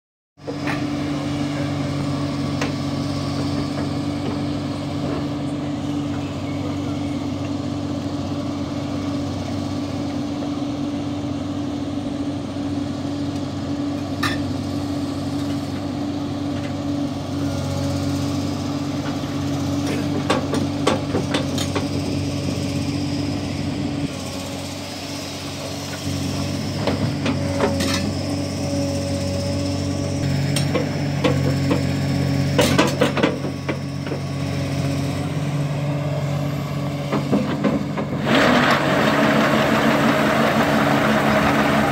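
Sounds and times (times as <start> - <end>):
excavator diesel engine running: 0.4 - 41.9.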